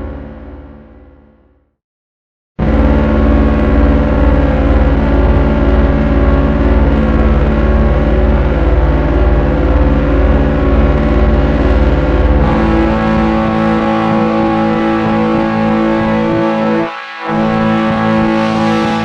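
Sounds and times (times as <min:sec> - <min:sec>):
synthesized electronic drone: 0:00.0 - 0:01.5, 0:02.6 - 0:19.0
heavy low rumble: 0:02.6 - 0:19.0.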